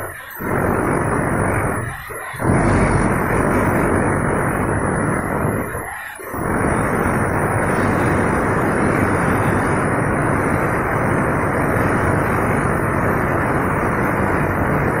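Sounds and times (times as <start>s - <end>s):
demolition hammers chiselling concrete: 0.0s - 12.7s.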